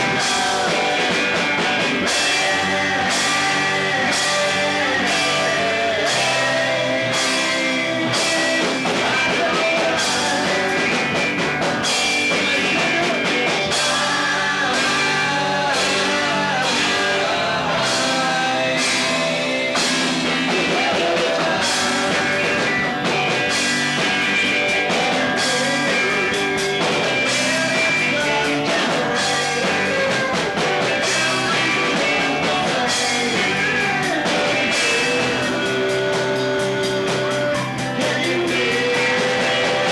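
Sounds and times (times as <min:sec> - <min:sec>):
drum kit: 0:00.0 - 0:39.9
electric guitars: 0:00.0 - 0:39.9
voices singing: 0:00.0 - 0:39.9.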